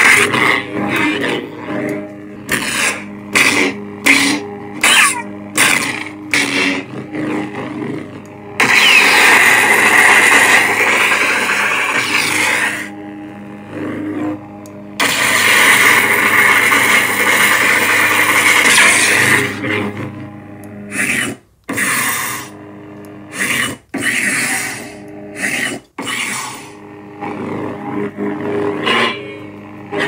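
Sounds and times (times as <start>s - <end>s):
lightsaber hum: 0.0s - 30.0s.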